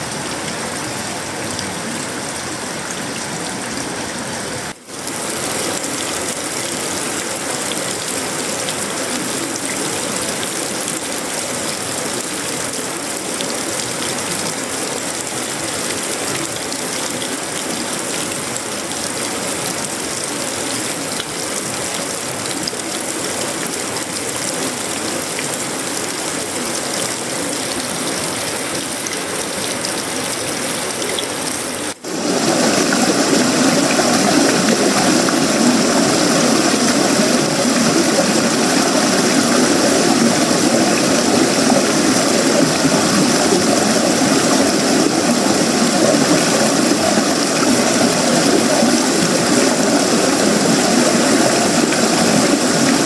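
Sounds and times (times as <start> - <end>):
heavy rain on metal roof: 0.0 - 53.0.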